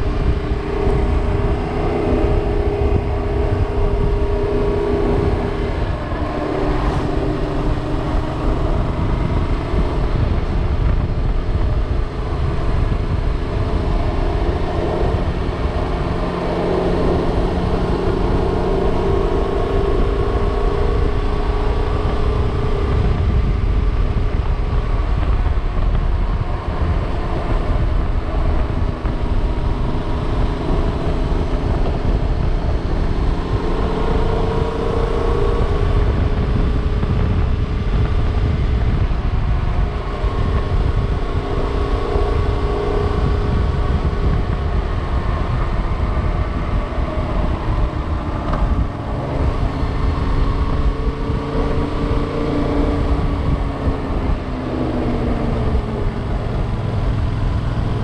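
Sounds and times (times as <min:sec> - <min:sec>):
motorcycle engine running: 0:00.0 - 0:58.0
wind rumble: 0:00.0 - 0:58.0.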